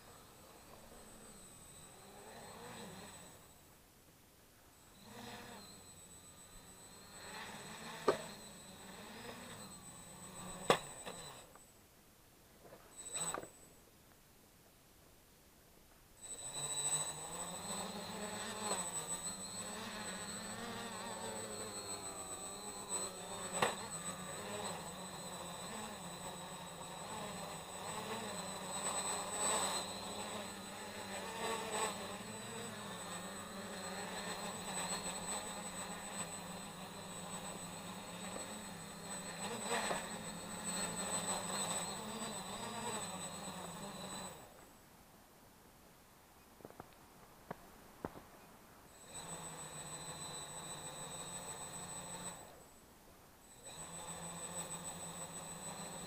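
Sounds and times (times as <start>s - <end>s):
quadcopter propellers buzzing: 0.0s - 3.6s, 4.9s - 11.5s, 12.9s - 13.6s, 16.2s - 44.6s, 48.9s - 52.6s, 53.5s - 56.0s.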